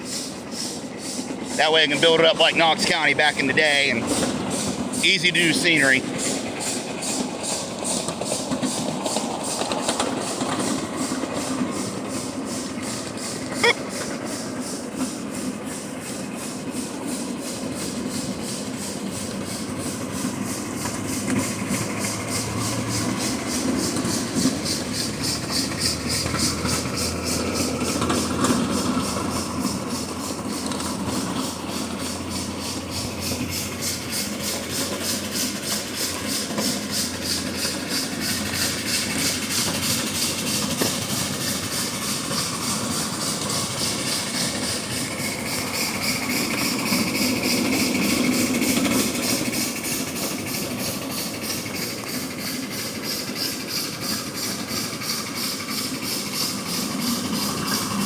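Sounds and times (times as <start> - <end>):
steam locomotive exhaust beat: 0.0 - 58.0.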